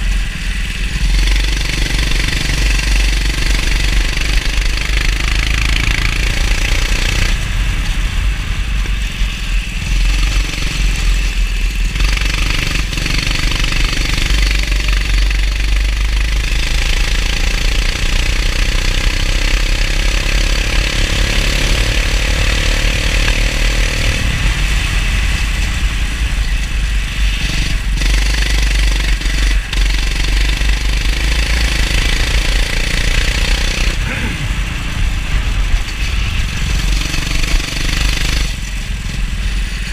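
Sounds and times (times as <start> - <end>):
heavy low rumble: 0.0 - 18.4, 19.5 - 39.9
go-kart engine accelerating: 0.0 - 39.9.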